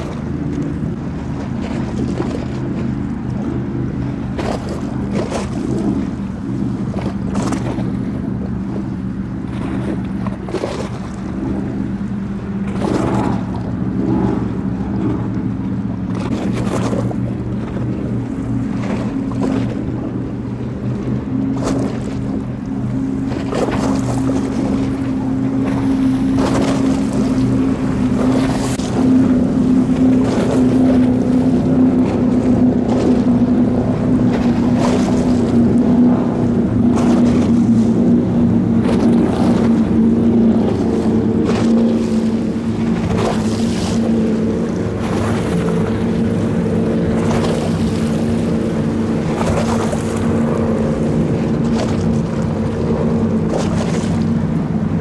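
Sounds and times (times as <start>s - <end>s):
higher engine tone: 0.0s - 55.0s
powerboat engines droning: 0.0s - 55.0s.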